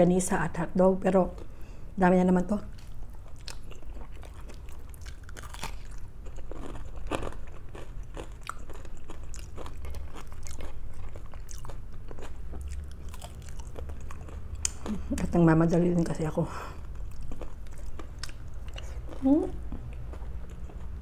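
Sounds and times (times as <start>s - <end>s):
person chewing food: 2.7s - 15.3s, 16.7s - 21.0s.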